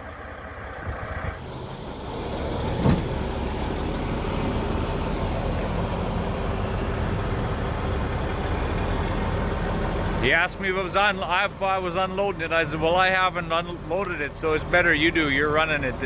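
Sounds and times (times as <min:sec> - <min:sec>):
heavy diesel truck running: 0:00.0 - 0:16.0.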